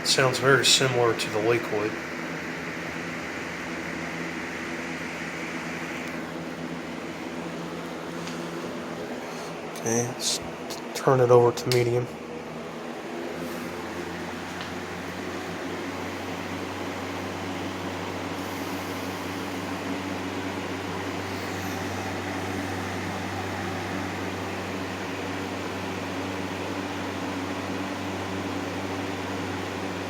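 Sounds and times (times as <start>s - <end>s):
box fan running: 0.0s - 30.0s.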